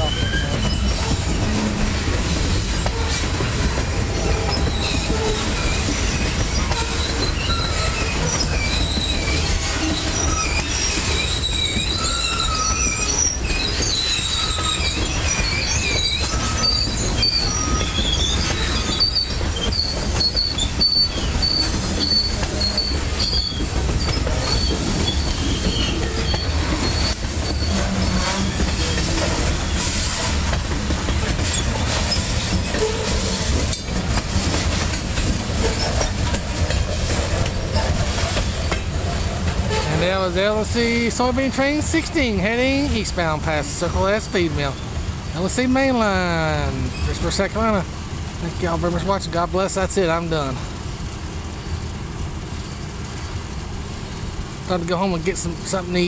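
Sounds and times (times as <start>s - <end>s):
freight train rumbling past: 0.0s - 56.0s
wheels squealing: 0.0s - 56.0s.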